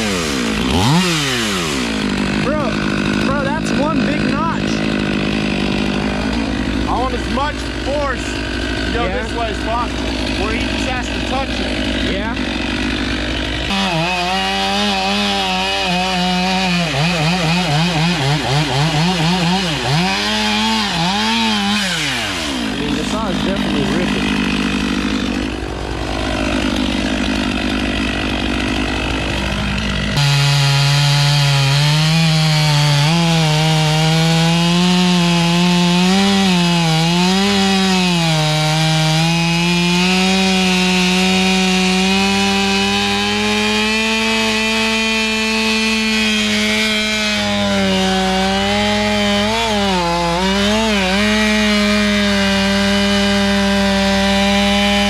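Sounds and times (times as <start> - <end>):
chainsaw cutting through wood: 0.0 - 55.0.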